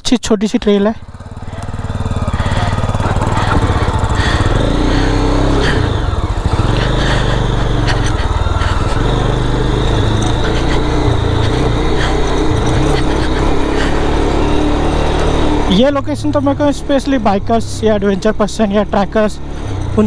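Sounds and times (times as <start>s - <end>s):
motorcycle engine running: 0.7s - 20.0s.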